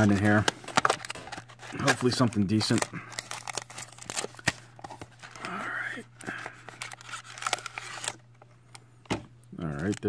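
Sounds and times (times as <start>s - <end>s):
packaging rustling and crinkling: 0.0s - 8.4s, 9.6s - 10.0s.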